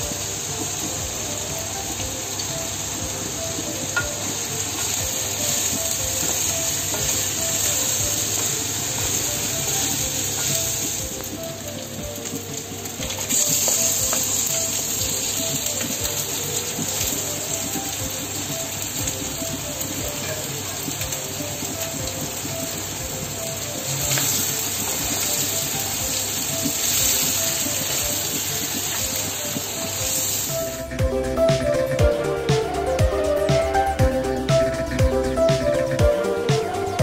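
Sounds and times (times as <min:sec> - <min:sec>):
meat sizzling in a wok: 0:00.0 - 0:31.0
background music: 0:00.0 - 0:37.0.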